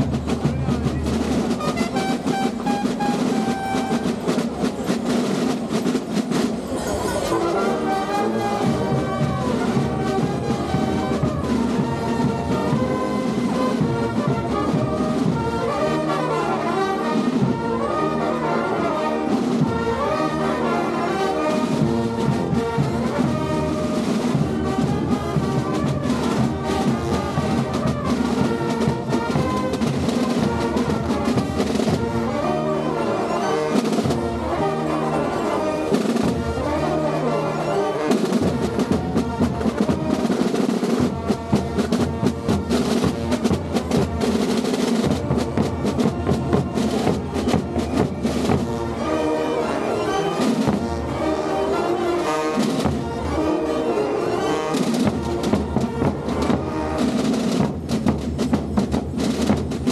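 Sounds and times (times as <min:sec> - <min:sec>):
drums keeping steady beat: 0:00.0 - 0:18.1, 0:21.2 - 0:32.5, 0:33.6 - 0:37.1, 0:37.9 - 0:53.8, 0:54.5 - 0:59.9
brass band playing: 0:00.0 - 0:59.9.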